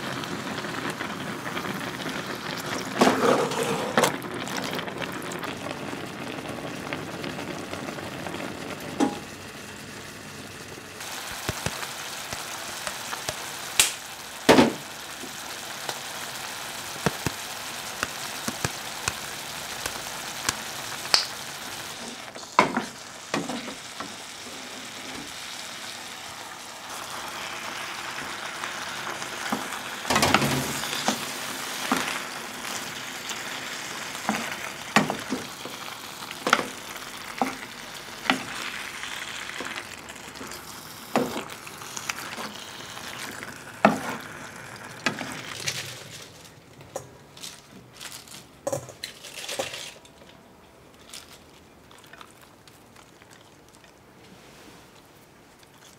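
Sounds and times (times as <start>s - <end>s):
sauce sizzling in a frying pan: 0.0s - 46.4s.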